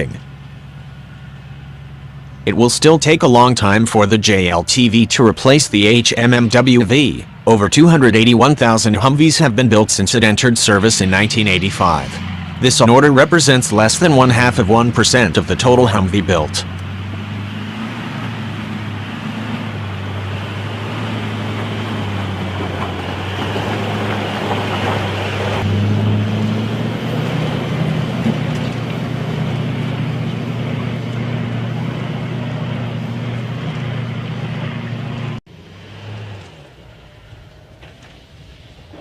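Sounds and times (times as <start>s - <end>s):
vehicle engine droning: 0.0s - 39.0s.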